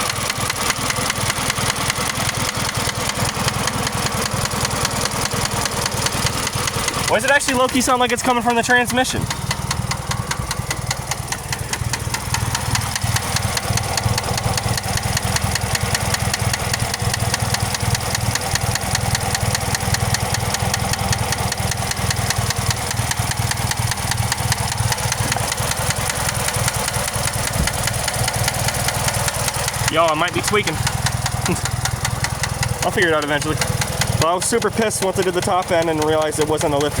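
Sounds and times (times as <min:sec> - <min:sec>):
car engine idling with knock: 0:00.0 - 0:37.0.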